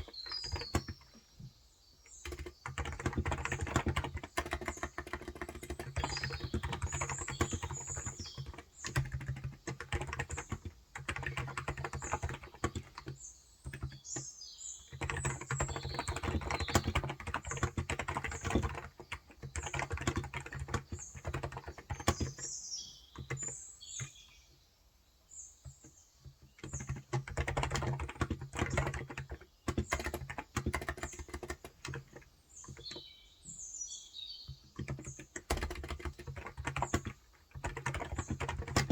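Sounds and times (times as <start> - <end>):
typing on a keyboard: 0.0 - 24.3, 25.6 - 33.6, 34.5 - 38.9
birds chirping: 0.0 - 38.9.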